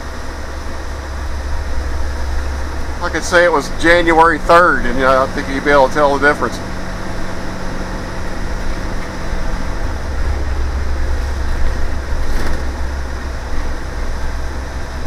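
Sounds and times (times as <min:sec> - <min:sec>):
bus engine hum: 0:00.0 - 0:15.0
road noise: 0:00.0 - 0:15.0.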